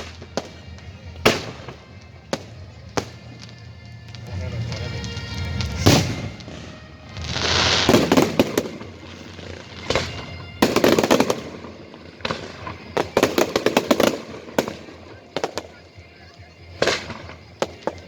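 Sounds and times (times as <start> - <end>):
firework bangs: 0.0 - 18.0
firework hissing and crackling: 0.0 - 18.0.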